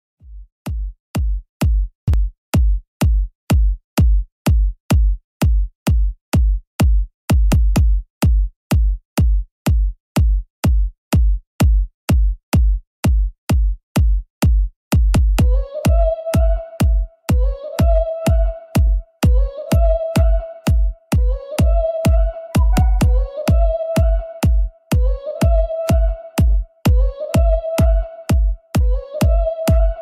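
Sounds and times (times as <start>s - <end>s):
drum machine bass drum beat: 0.2s - 30.0s.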